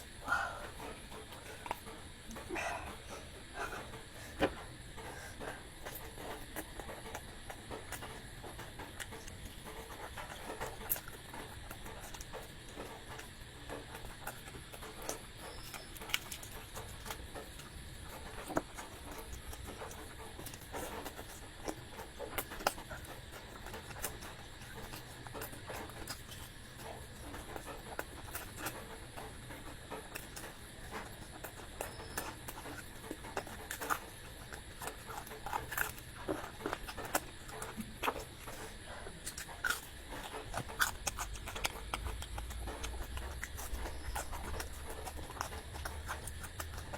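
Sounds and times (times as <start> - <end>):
low background hum: 0.0 - 46.9
person chewing food: 0.0 - 46.9.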